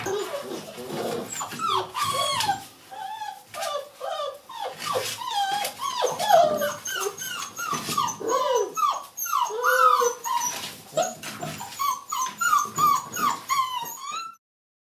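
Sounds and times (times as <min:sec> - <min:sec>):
puppies whining and yelping: 0:00.0 - 0:14.4.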